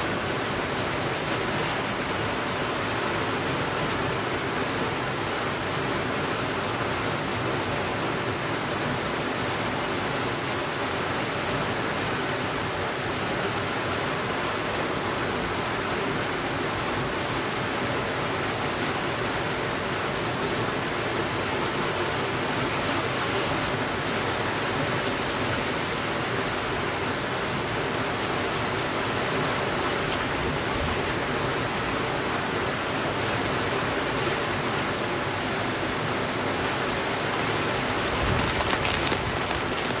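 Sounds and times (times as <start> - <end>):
steady rainfall: 0.0 - 40.0.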